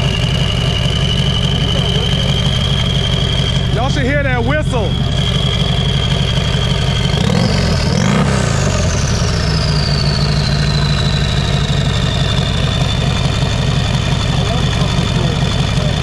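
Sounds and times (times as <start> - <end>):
motorcycle engine idling and revving: 0.0 - 16.0
turbo whine: 0.0 - 16.0.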